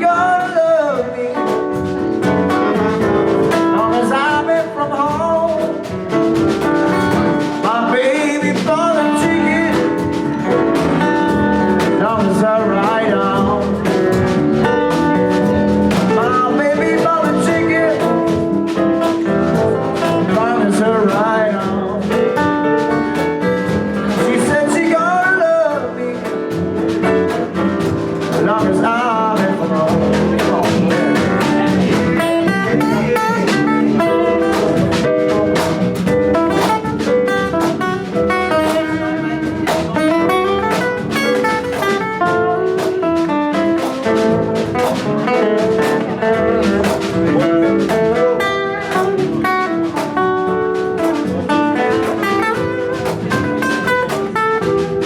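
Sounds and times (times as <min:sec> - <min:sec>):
electric guitar bending notes: 0:00.0 - 0:55.0
live band playing blues-jazz: 0:00.0 - 0:55.0.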